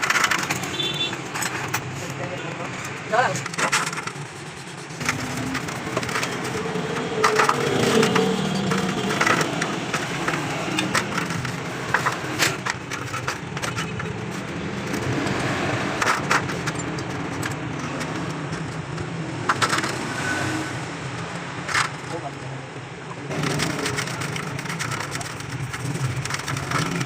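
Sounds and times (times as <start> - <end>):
hand tools clicking on metal: 0.0 - 20.0, 23.3 - 27.0.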